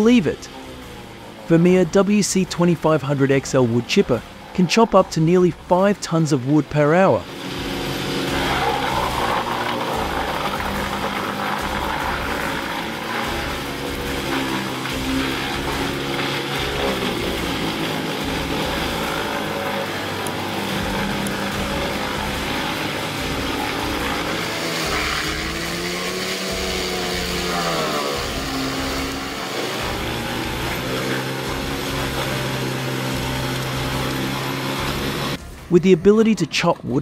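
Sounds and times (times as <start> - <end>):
diesel engine running under load: 0.0 - 6.4, 7.0 - 35.5
wood grinding in chipper: 0.0 - 35.4.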